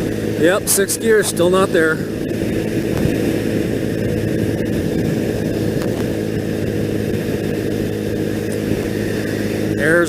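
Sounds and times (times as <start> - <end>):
motorcycle engine running: 0.0 - 10.0
wind rushing: 1.4 - 9.8.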